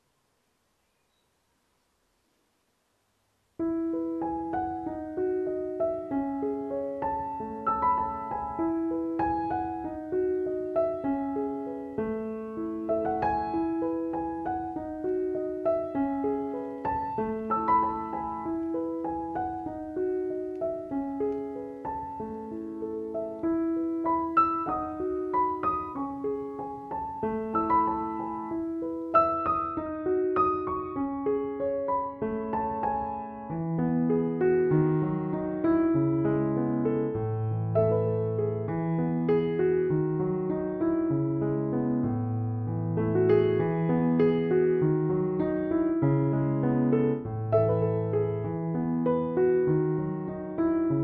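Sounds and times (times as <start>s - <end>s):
gentle piano melody: 3.5s - 51.0s.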